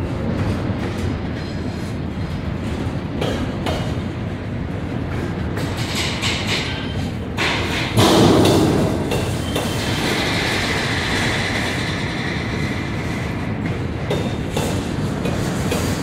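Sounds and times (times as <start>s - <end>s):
train wheels rumbling and clicking: 0.0s - 16.0s.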